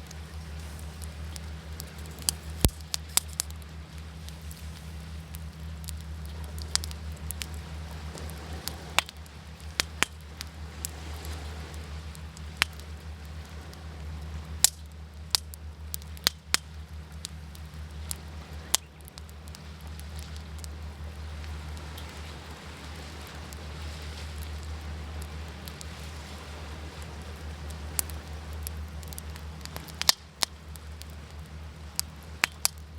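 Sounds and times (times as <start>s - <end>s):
waves rushing: 0.0s - 14.8s, 19.4s - 32.8s
campfire crackling and popping: 0.0s - 32.9s.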